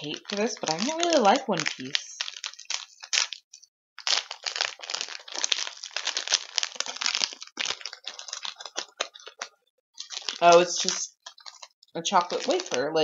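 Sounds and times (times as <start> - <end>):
wrapper crinkling: 0.0 - 13.0.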